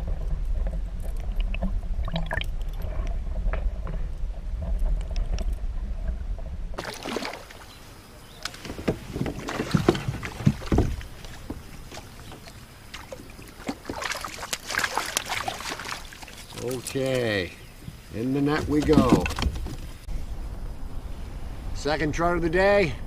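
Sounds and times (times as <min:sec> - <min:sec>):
water splashing and sloshing: 0:00.0 - 0:20.1.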